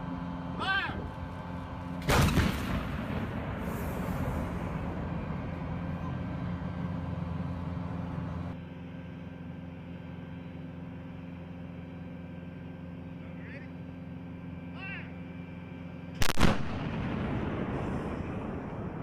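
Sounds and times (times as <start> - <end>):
diesel engine idling: 0.0 - 16.1.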